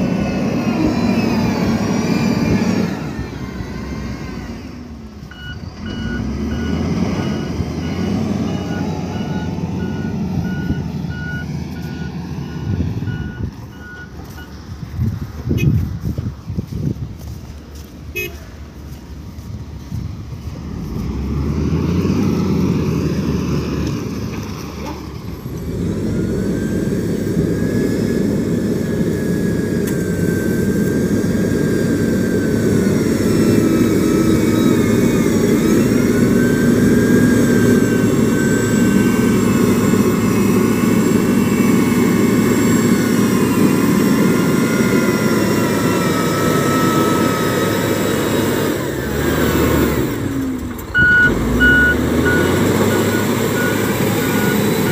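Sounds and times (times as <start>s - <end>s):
diesel engine droning: 0.0s - 54.9s
high engine whine: 0.0s - 54.9s.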